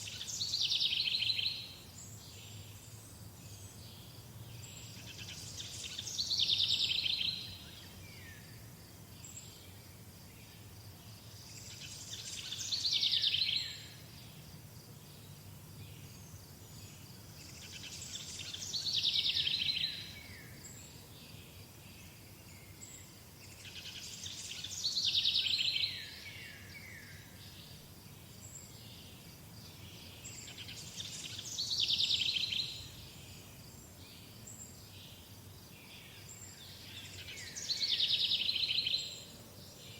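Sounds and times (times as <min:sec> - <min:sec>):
faint insects: 0:00.0 - 0:39.9
songbird singing: 0:00.0 - 0:39.9.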